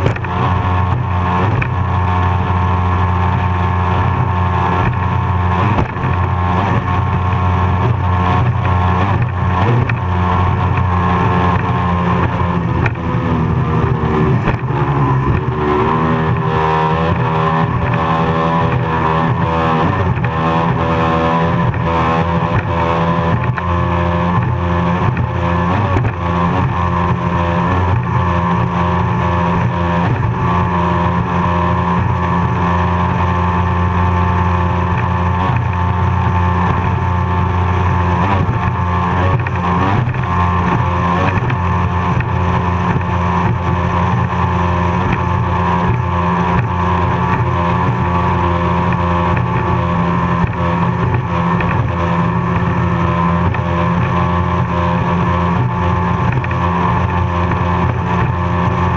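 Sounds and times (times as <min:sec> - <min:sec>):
powerboat engine droning: 0:00.0 - 0:58.9.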